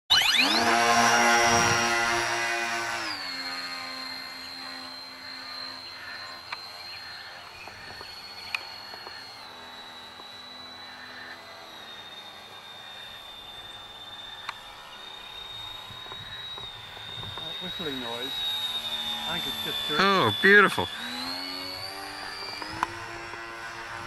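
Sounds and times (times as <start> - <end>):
model airplane motor whine: 0.1 - 24.0.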